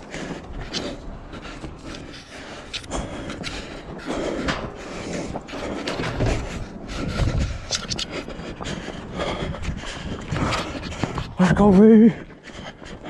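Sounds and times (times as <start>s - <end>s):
rustling and scraping: 0.0s - 11.7s
dull thumps of footsteps: 0.0s - 13.0s.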